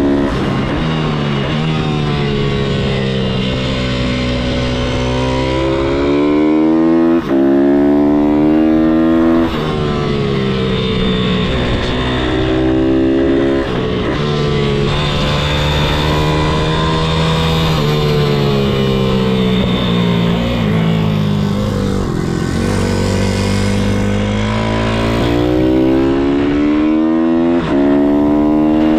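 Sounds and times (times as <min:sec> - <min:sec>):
motorbike engine revving: 0:00.0 - 0:28.9.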